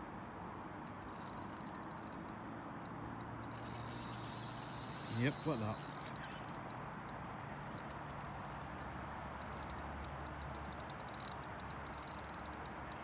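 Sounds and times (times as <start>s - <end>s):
fishing reel clicking: 0.9s - 7.2s, 7.8s - 13.0s.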